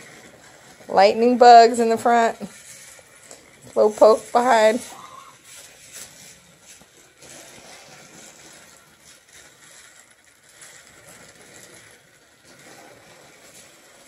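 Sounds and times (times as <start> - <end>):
toy race cars running on track: 0.0 - 14.0.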